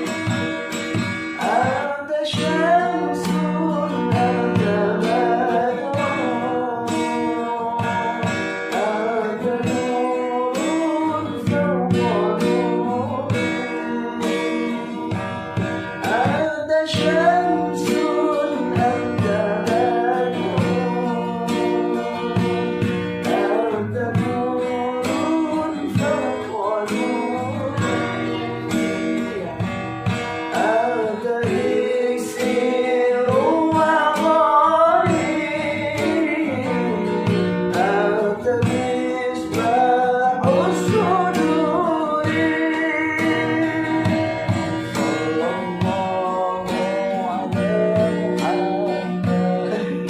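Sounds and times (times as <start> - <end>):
plucked guitar: 0.0 - 50.0
person singing: 1.3 - 50.0.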